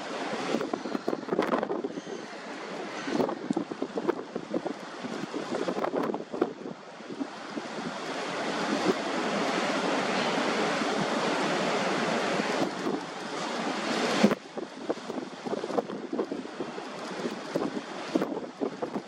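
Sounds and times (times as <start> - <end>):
harbour water: 0.0 - 19.0.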